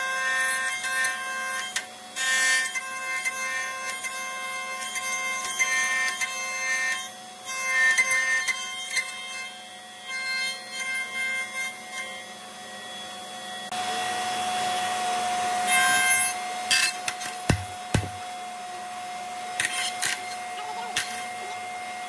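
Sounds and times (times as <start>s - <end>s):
planer cutting wood: 0.0s - 22.0s.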